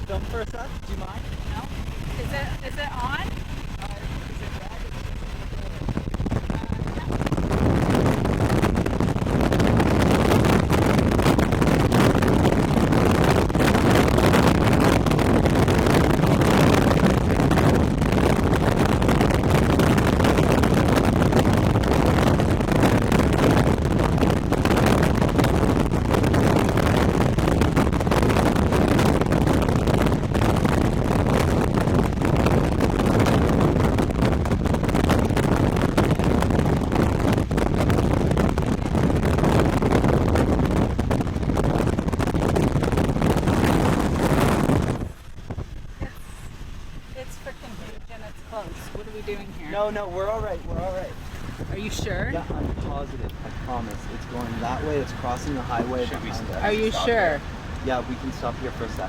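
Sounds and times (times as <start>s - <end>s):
car road and engine noise: 0.0s - 59.0s
wind buffeting microphone: 0.0s - 59.0s.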